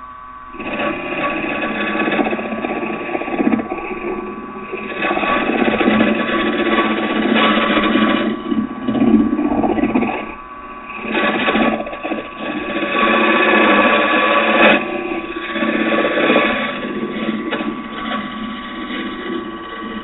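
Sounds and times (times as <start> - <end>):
lathe motor hum: 0.0 - 20.0
lathe tool cutting wood: 0.0 - 20.0.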